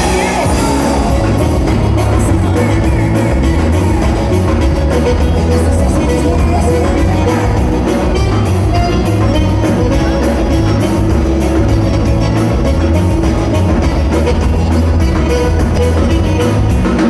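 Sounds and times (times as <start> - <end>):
drum kit beat: 0.0 - 17.0
guitar: 0.0 - 17.0.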